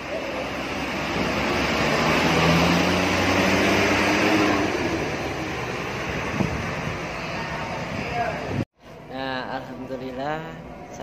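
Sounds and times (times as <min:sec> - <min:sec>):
bus diesel engine driving away: 0:00.0 - 0:11.0.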